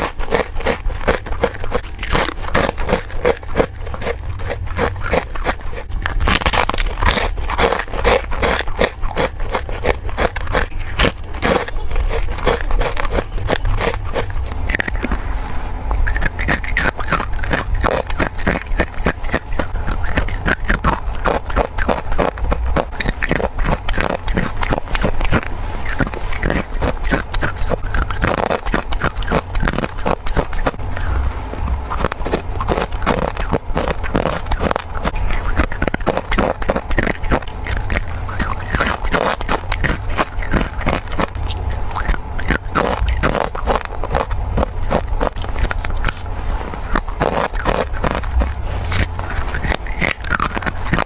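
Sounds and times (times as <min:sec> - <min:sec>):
low steady hum: 0:00.0 - 0:51.0
person crunching frost: 0:00.0 - 0:51.0.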